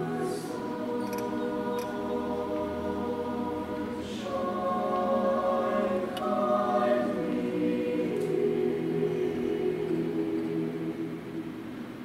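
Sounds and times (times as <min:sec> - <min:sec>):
mixed choir singing chords: 0:00.0 - 0:12.0.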